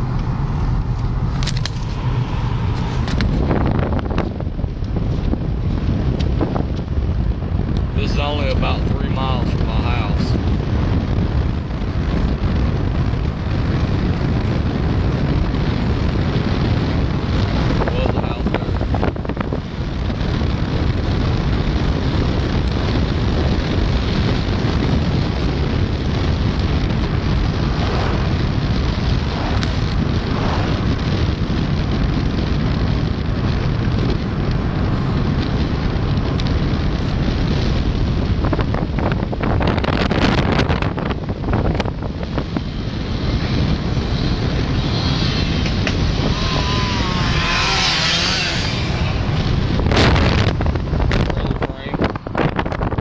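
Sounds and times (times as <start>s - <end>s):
car road and wind noise: 0.0s - 53.0s
wind buffeting microphone: 0.0s - 53.0s.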